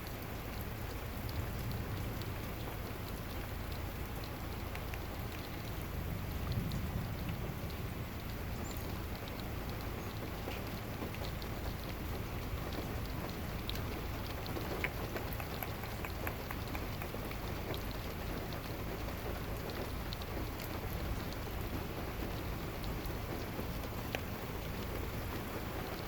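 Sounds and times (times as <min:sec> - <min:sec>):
heavy rain on a car: 0:00.0 - 0:26.0
sharp ticks of raindrops: 0:00.0 - 0:26.0.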